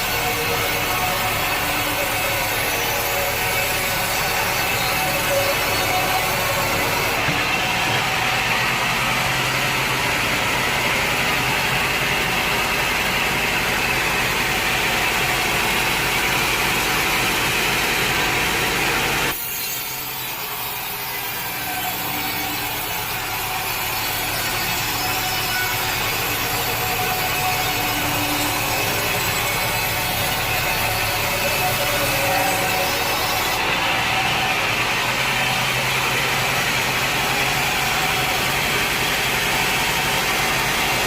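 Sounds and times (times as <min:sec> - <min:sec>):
saw cutting through log: 0:00.0 - 0:41.0.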